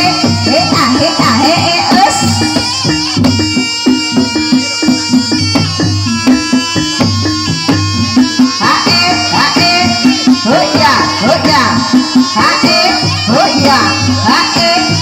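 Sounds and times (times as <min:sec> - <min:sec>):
gamelan drums and metal percussion: 0:00.0 - 0:15.0.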